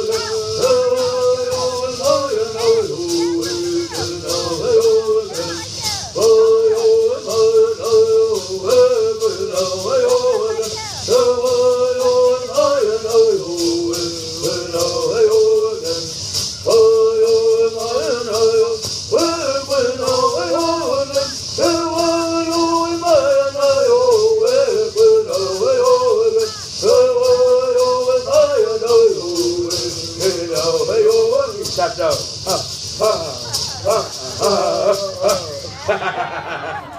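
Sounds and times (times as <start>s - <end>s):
hand rattles shaking: 0.0s - 36.9s
men singing in unison: 0.0s - 36.9s.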